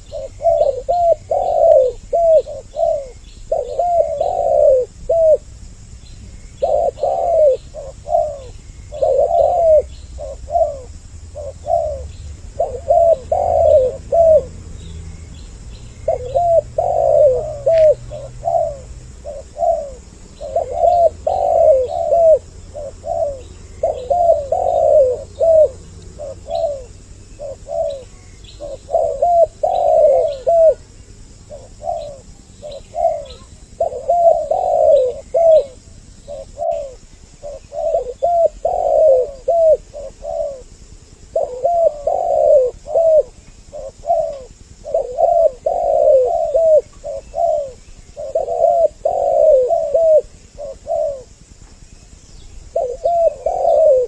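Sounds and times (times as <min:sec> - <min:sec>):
doves cooing: 0:00.0 - 0:54.0
faint high bird chirps: 0:06.0 - 0:40.7, 0:41.4 - 0:54.0.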